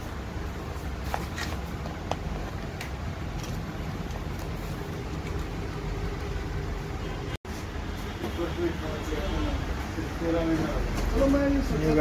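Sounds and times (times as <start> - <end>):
low rumble of vehicle noise: 0.0 - 12.0.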